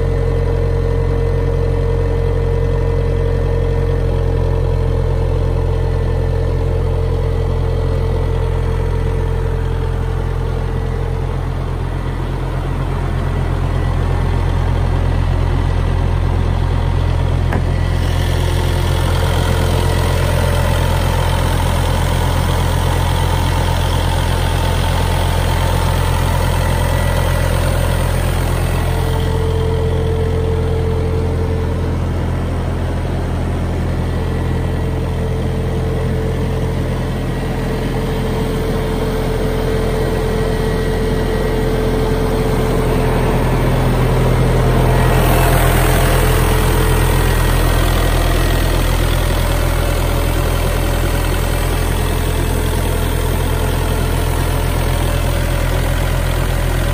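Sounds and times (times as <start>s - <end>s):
small diesel engine humming: 0.0s - 56.9s.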